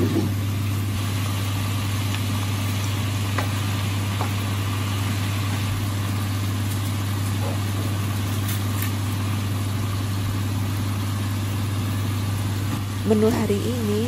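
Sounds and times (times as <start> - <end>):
food frying in a pan: 0.0 - 14.0
low mechanical hum: 0.0 - 14.0.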